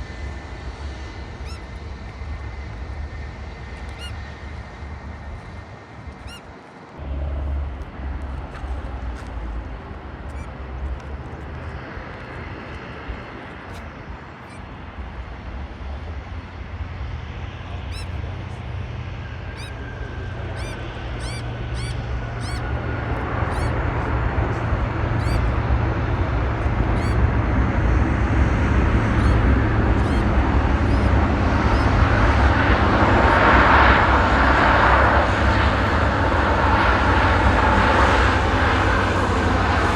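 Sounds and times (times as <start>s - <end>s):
jet airliner engines: 0.0s - 39.9s
wind on microphone: 0.0s - 39.9s.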